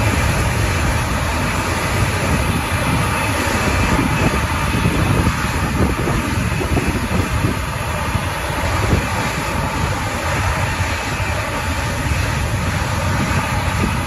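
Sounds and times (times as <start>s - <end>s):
jet engines hissing: 0.0s - 14.0s
wind buffeting microphone: 0.0s - 14.0s.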